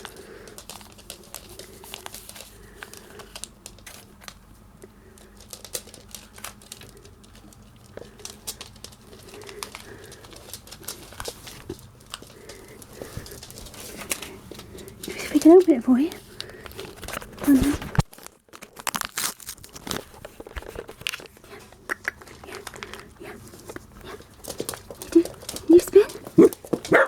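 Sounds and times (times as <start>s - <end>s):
puppy chewing a treat: 0.0s - 18.8s, 19.8s - 27.0s.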